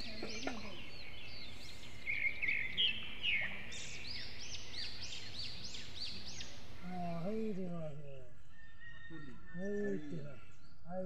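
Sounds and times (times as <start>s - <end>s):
birds chirping and calling: 0.0s - 11.0s
rural background noise: 0.0s - 11.0s.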